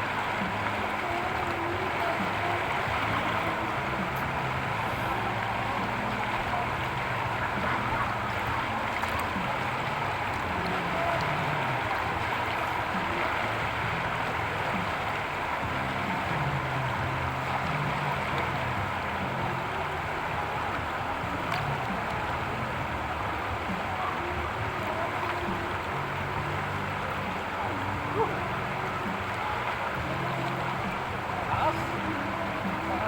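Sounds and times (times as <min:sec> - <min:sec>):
river water rushing over rocks: 0:00.0 - 0:33.0.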